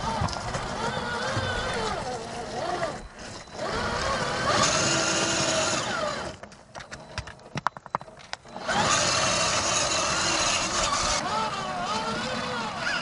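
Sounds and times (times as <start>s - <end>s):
electric motor whining: 0.0s - 7.3s, 8.4s - 13.0s.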